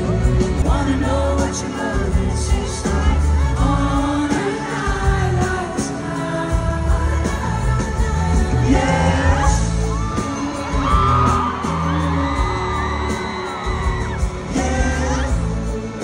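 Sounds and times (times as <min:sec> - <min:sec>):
bass: 0:00.0 - 0:16.0
full band playing: 0:00.0 - 0:16.0
heavy drums: 0:00.0 - 0:16.0
man singing: 0:00.0 - 0:16.0.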